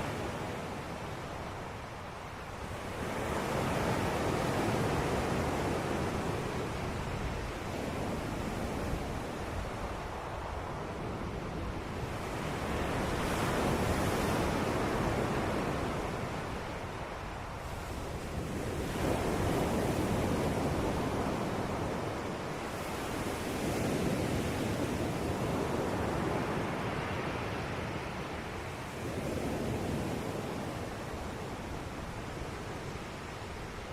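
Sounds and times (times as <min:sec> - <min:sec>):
ocean waves breaking on shore: 0:00.0 - 0:33.9.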